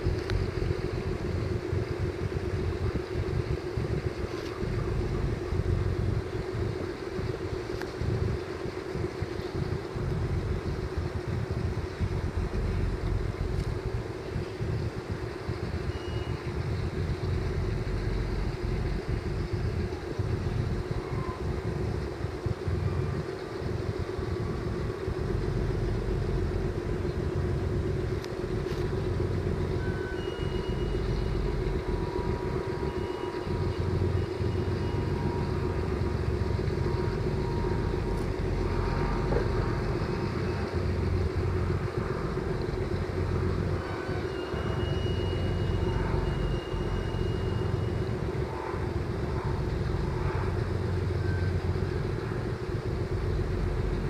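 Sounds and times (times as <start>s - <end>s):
engine humming: 0.0s - 54.0s.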